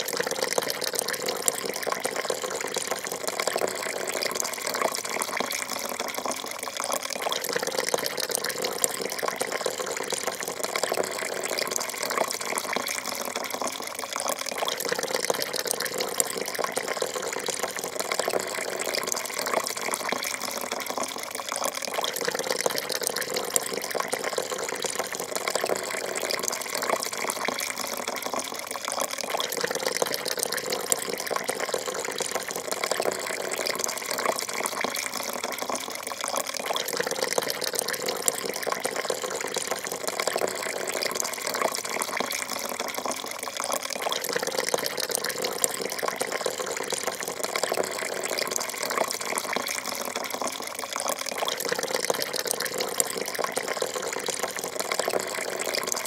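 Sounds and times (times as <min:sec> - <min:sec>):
coffee pouring into a cup: 0:00.0 - 0:56.0.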